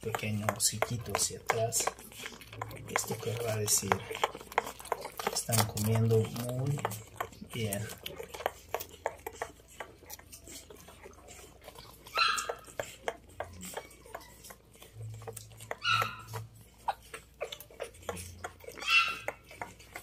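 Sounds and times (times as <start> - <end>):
puppies suckling wet clicks: 0.0 - 20.0
puppy squeaking: 1.0 - 20.0.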